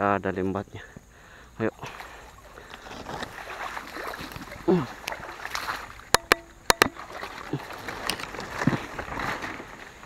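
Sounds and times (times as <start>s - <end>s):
rustling of fish trap on grass: 1.9s - 10.0s.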